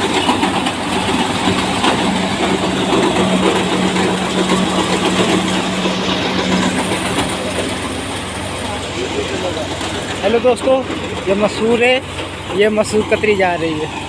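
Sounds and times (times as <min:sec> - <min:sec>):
thresher clattering: 0:00.0 - 0:13.4
tractor engine humming: 0:00.0 - 0:14.0.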